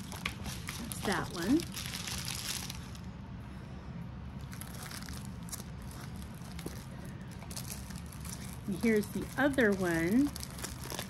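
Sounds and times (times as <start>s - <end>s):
plastic packaging crinkling: 0.0s - 3.1s, 4.4s - 11.0s
low steady hum: 0.0s - 11.0s.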